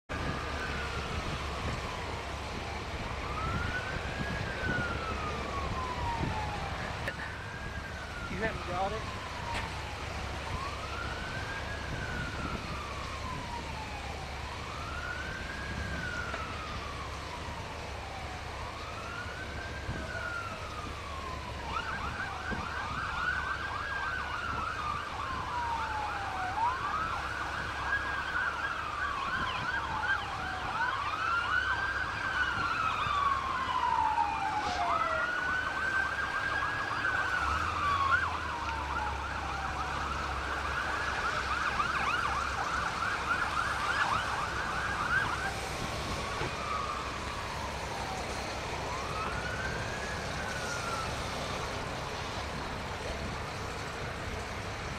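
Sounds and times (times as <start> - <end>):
yelping siren: 0.1 - 54.5
wailing siren: 0.1 - 54.9.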